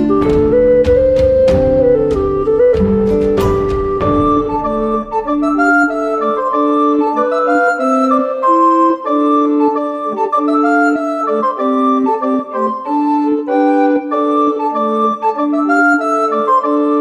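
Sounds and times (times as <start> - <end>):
instrumental melody of held notes: 0.0 - 17.0.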